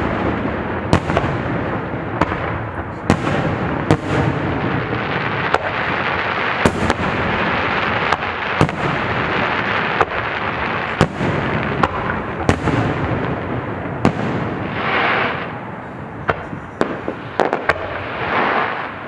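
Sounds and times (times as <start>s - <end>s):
fireworks bangs: 0.0s - 19.0s
fireworks hissing: 0.0s - 19.0s
fireworks rumble: 0.0s - 19.0s.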